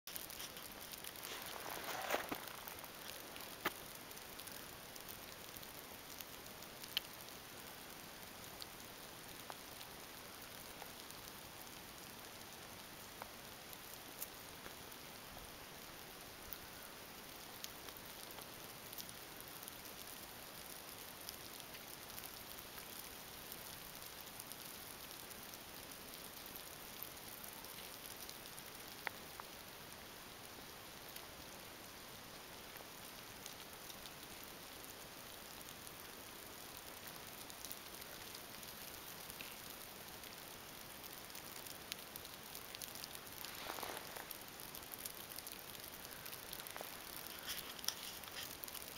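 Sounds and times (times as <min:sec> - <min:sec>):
steady outdoor hiss: 0:00.0 - 0:48.9.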